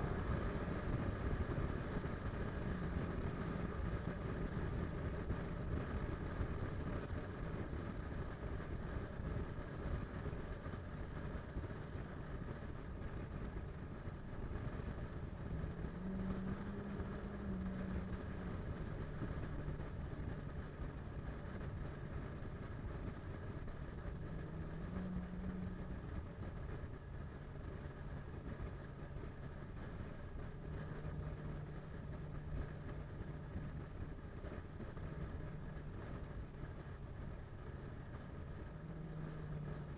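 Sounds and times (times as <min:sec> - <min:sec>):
car engine hum: 0:00.0 - 0:39.9
tyre and road noise: 0:00.0 - 0:39.9.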